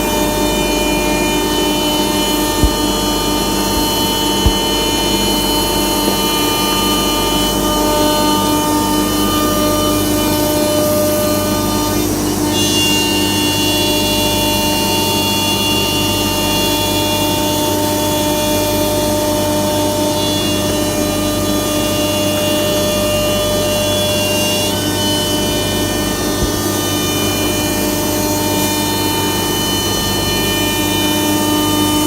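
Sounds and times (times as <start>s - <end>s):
router spindle whine: 0.0s - 32.0s.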